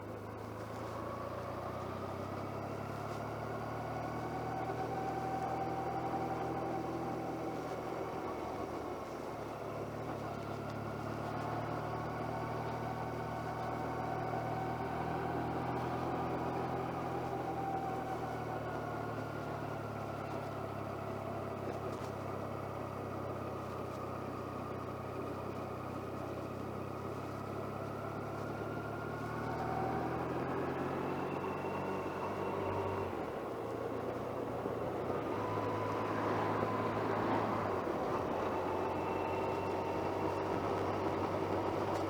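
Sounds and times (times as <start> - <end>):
motorcycle engine cruising: 0.0 - 42.0.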